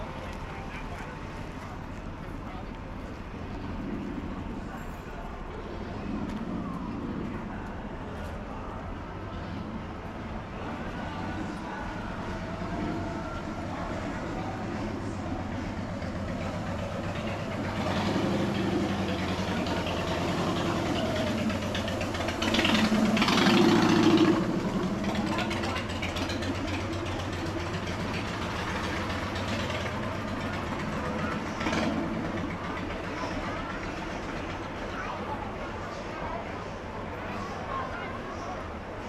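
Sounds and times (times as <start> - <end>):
vehicle engines running: 0.0 - 39.0.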